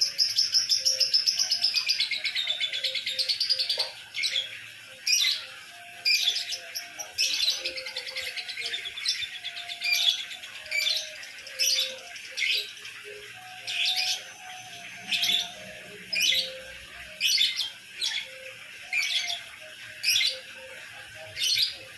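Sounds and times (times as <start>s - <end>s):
lovebird chirping: 0.0s - 21.9s.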